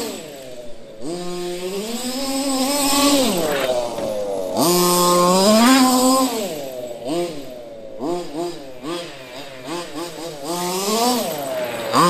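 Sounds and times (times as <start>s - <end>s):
rc truck engine revving: 0.0s - 12.0s.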